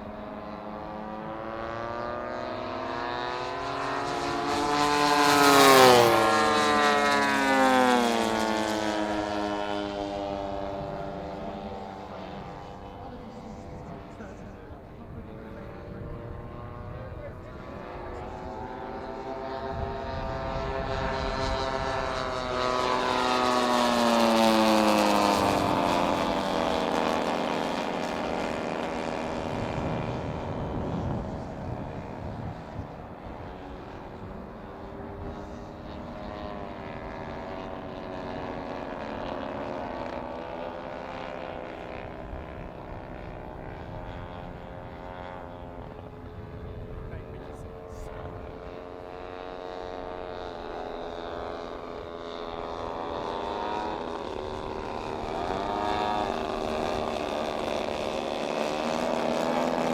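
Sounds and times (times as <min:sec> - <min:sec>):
model airplane engines flying past: 0:00.0 - 0:59.9.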